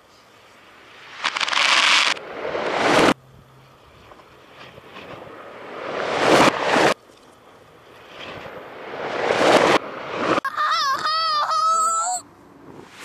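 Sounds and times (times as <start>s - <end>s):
reversed firework bursts: 0.0s - 12.0s, 12.6s - 13.0s.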